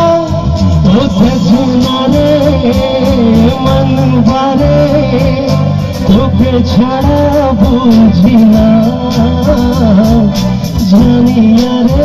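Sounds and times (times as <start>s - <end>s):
electric guitar: 0.0s - 12.0s
keyboard: 0.0s - 12.0s
man singing into a microphone: 0.0s - 12.0s.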